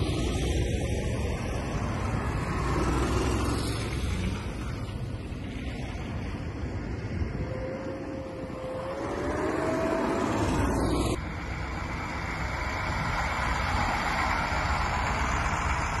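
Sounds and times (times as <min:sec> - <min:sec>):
armoured vehicle whine: 0:00.0 - 0:16.0
diesel trucks driving past: 0:00.0 - 0:16.0.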